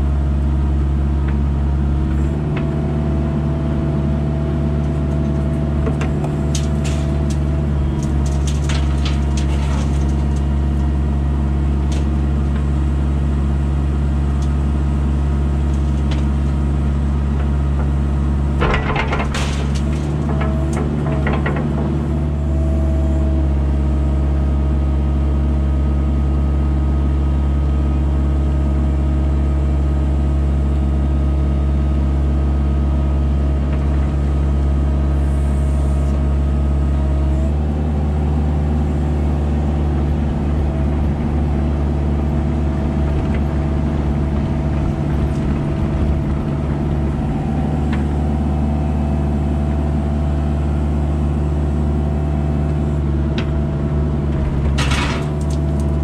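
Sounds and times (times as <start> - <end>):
digger diesel engine running: 0.0 - 56.0.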